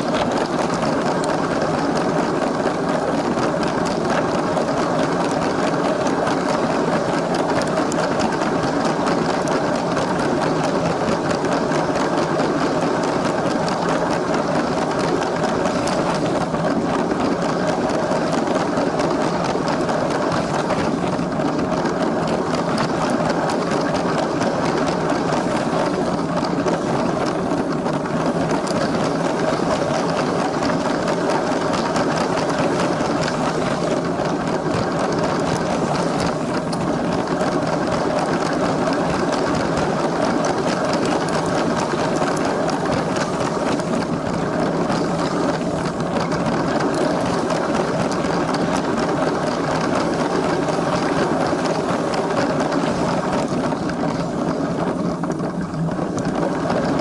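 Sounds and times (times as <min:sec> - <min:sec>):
wheels rattling on plastic track: 0:00.0 - 0:57.0.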